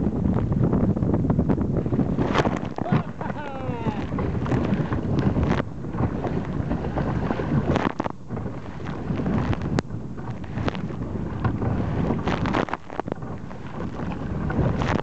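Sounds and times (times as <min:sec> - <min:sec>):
waves slapping kayak hull: 0:00.0 - 0:15.0
wind buffeting microphone: 0:00.0 - 0:15.0.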